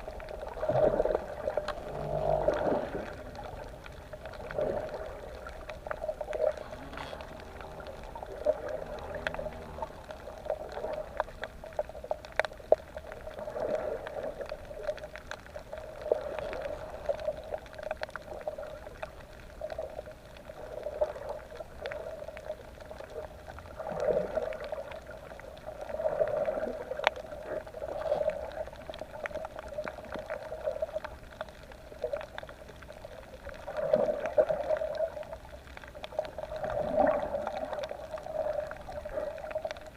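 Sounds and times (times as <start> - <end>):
underwater gurgling and bubbling: 0.0 - 39.9.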